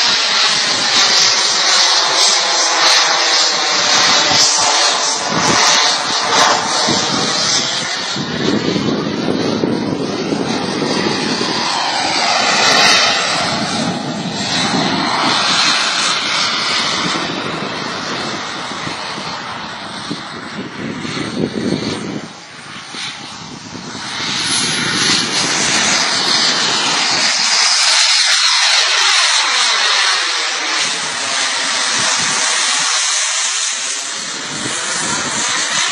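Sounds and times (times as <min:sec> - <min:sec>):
jet aircraft flying overhead: 0:00.0 - 0:35.9.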